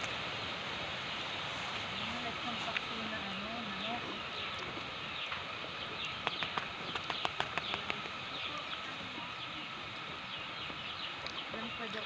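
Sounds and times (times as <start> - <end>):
background hiss: 0.0 - 12.0
small birds chirping: 0.0 - 12.0.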